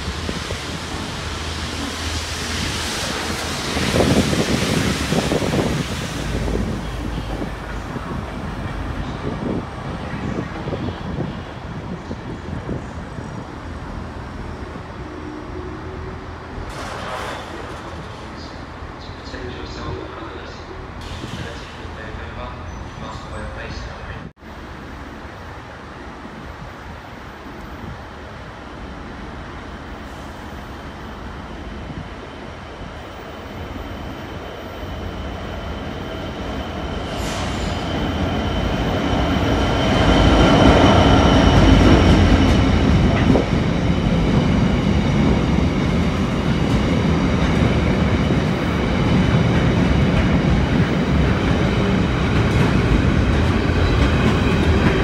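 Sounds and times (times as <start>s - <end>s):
diesel locomotive passing: 0.0s - 55.0s.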